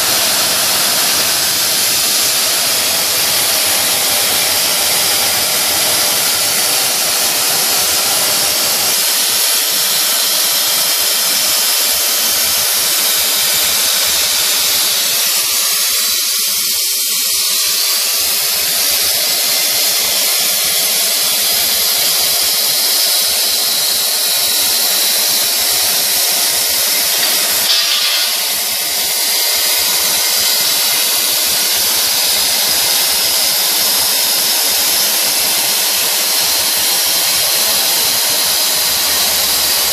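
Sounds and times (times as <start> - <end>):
cnc spindle motor whine: 0.0 - 39.9.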